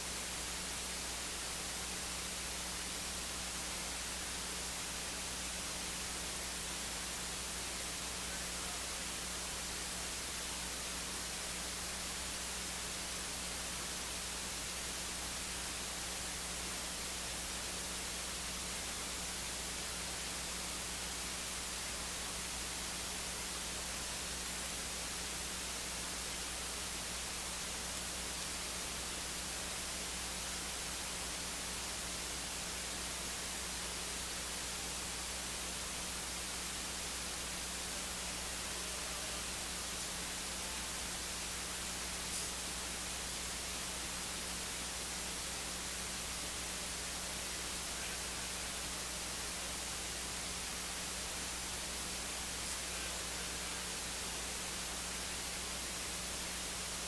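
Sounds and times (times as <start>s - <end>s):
electronic hiss: 0.0s - 57.0s
faint low hum: 0.0s - 57.0s.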